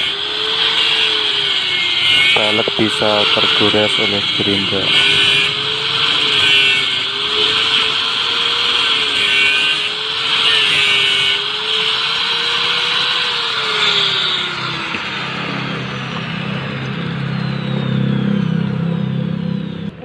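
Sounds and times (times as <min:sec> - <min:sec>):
angle grinder cutting steel wire: 0:00.0 - 0:20.0.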